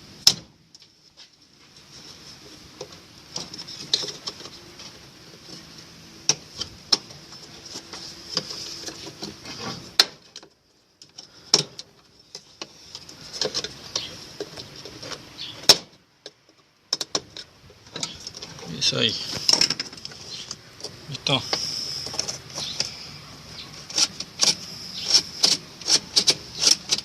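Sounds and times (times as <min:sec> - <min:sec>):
clicks and knocks of parts handled: 0:02.8 - 0:23.0, 0:23.6 - 0:27.0.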